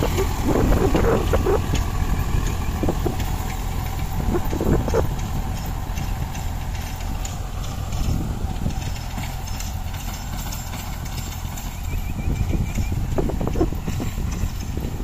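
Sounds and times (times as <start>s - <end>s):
rotavator knocking: 0.0s - 15.0s
tractor diesel engine running: 0.0s - 15.0s.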